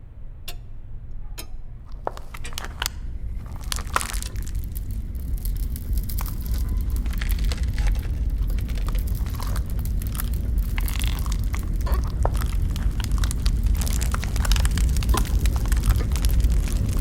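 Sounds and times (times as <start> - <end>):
steady low rumble: 0.0 - 17.0
crackling and snapping: 1.9 - 17.0.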